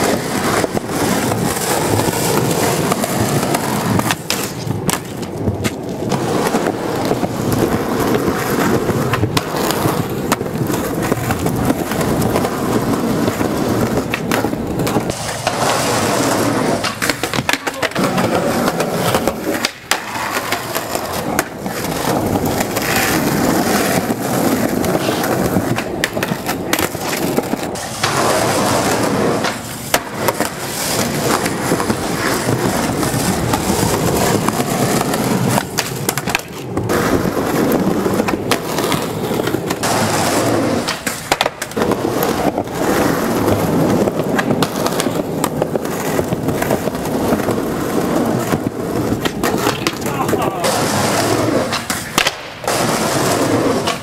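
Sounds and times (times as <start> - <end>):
skateboard popping and landing: 0.0 - 54.0
skateboard wheels rolling on concrete: 0.0 - 54.0.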